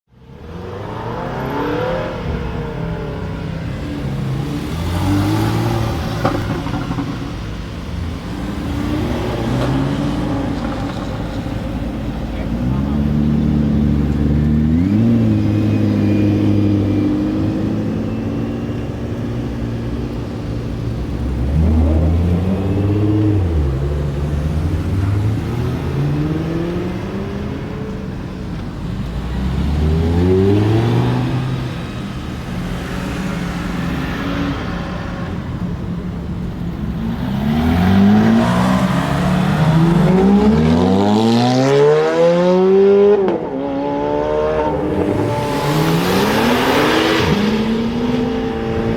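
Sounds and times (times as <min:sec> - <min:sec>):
car engine revving and accelerating: 0:00.2 - 0:48.9.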